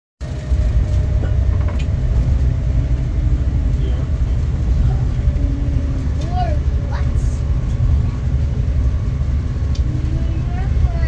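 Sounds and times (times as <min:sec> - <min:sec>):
train rumbling along track: 0:00.2 - 0:11.0.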